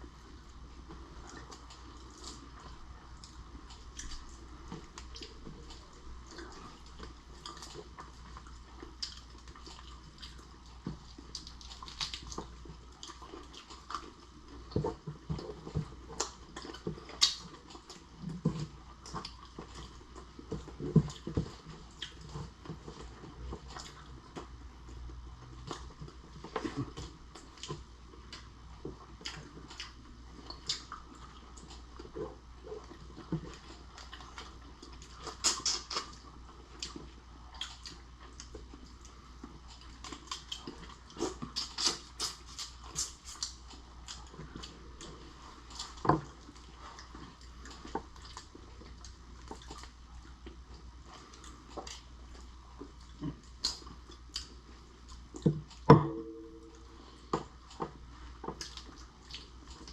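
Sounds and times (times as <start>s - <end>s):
person chewing seafood: 0.0s - 59.9s.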